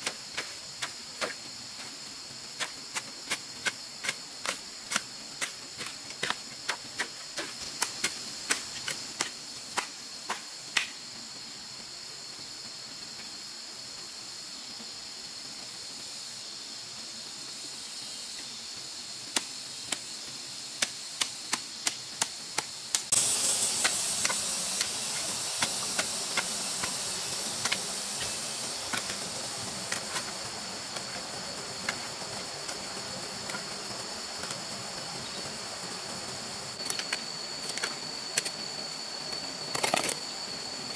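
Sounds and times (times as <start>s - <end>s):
forest insects droning: 0.0s - 40.9s.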